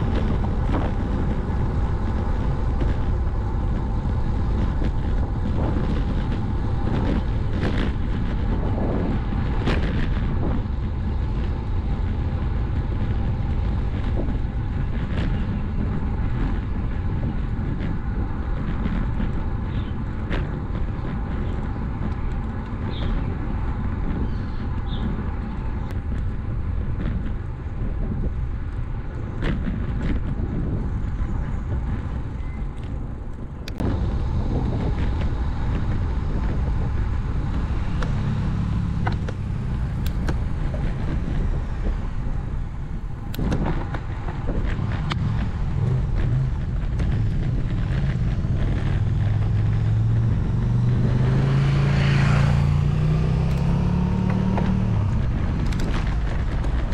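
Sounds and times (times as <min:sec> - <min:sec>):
motor vehicle engine hum: 0:00.0 - 0:56.9
wind and road rush: 0:00.0 - 0:56.9.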